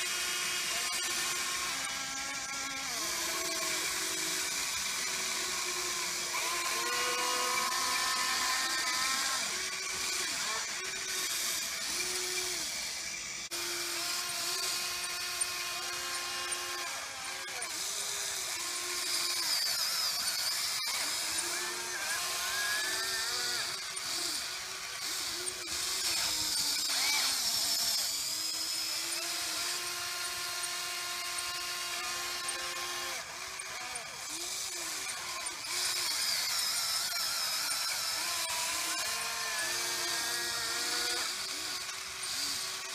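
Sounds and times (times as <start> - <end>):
electric motors whining: 0.0 - 42.9.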